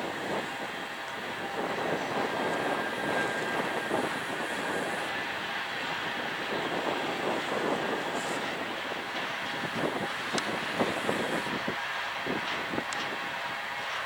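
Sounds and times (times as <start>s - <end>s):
freight train rumbling on rails: 0.0s - 14.0s.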